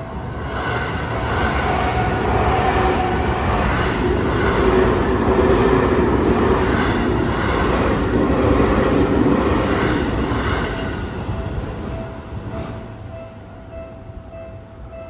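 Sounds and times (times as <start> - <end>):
train wheels rumbling on rails: 0.0 - 13.4.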